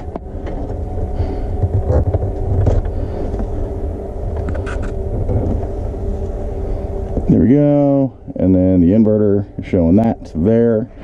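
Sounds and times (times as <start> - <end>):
low rumble: 0.0 - 11.0
mechanical hum: 0.0 - 11.0.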